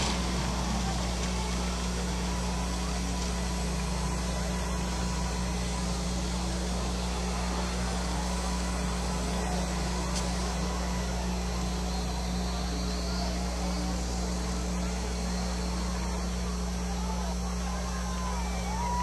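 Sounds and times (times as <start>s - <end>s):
car engines droning: 0.0s - 19.0s.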